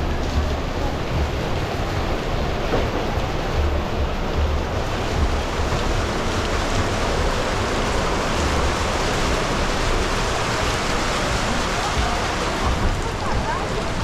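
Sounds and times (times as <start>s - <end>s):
heavy rain: 0.0s - 14.0s
low rumble: 0.0s - 14.0s.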